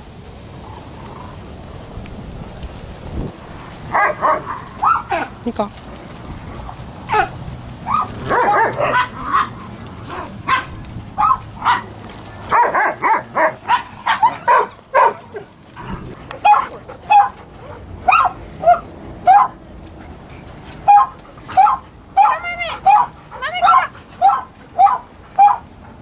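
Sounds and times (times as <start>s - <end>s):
dogs barking and yipping: 2.6s - 26.0s.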